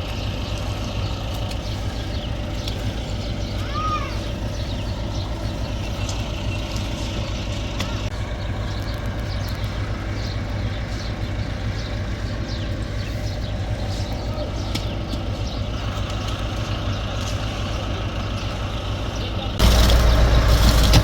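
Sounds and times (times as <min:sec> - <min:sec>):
heavy engine running steadily: 0:00.0 - 0:21.0.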